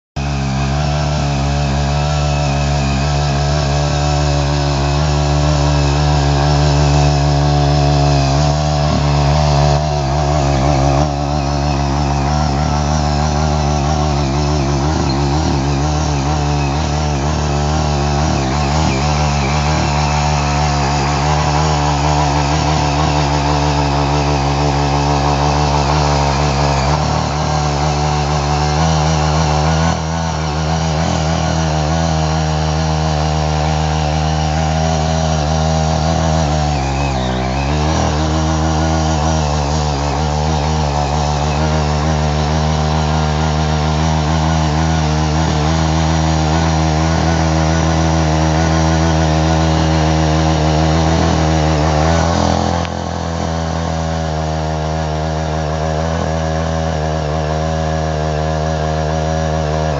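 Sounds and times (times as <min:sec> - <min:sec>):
small engine running: 0:00.0 - 0:59.9
tiller tines churning soil: 0:00.2 - 0:59.9.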